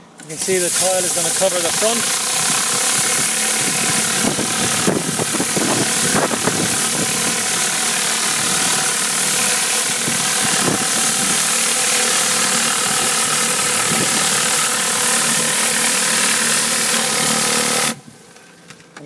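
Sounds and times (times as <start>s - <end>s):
pressure washer engine running: 0.0s - 18.0s
water jet hissing: 0.3s - 18.0s.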